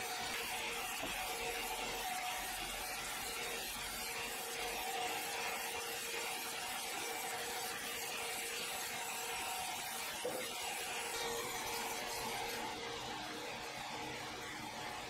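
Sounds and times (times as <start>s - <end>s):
band saw rasping through log: 0.0s - 13.0s.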